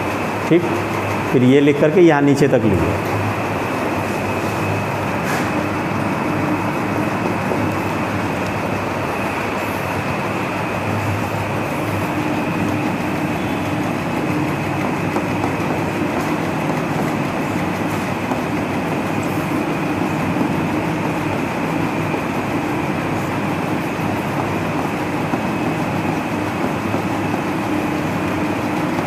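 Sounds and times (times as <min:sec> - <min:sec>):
loud steady rumbling: 0:00.0 - 0:29.0.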